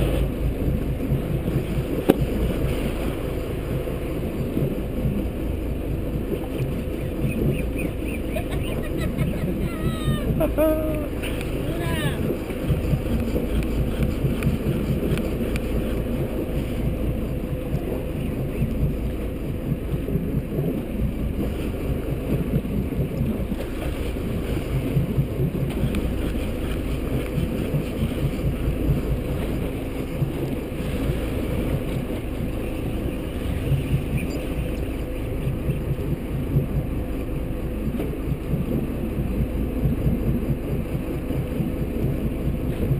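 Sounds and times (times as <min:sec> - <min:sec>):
outboard motor running: 0:00.0 - 0:42.9
wind buffeting microphone: 0:00.0 - 0:42.9.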